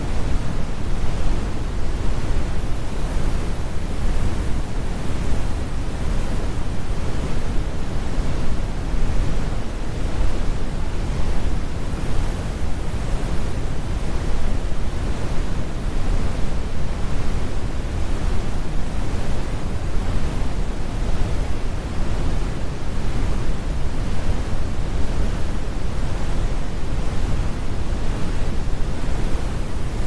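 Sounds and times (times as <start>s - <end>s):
brown noise rumbling hiss: 0.0s - 30.0s.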